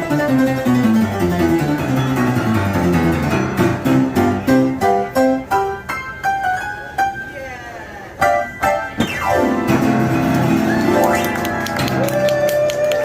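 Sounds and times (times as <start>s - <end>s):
piano runs and chords: 0.0s - 7.4s, 8.2s - 12.4s.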